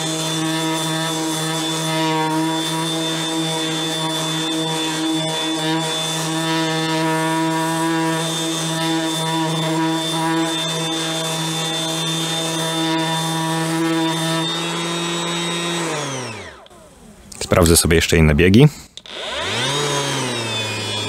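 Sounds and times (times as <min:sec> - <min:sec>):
orbital sander humming on wood: 0:00.0 - 0:17.1, 0:19.0 - 0:21.0.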